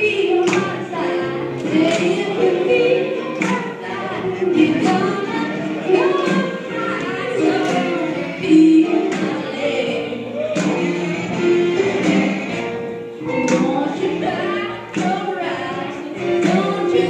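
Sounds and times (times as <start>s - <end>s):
blues music with singer: 0.0s - 17.0s.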